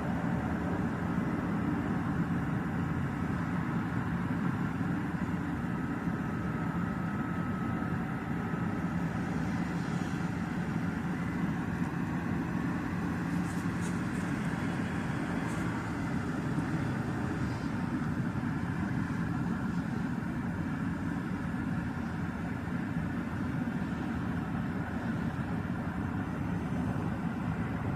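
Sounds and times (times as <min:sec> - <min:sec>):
faint constant hum: 0:00.0 - 0:27.9
low mechanical drone: 0:00.0 - 0:27.9.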